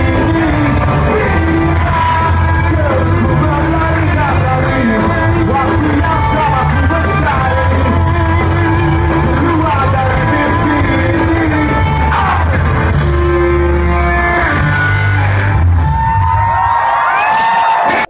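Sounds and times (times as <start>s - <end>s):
person singing: 0.0s - 15.6s
live rock band playing: 0.0s - 18.0s.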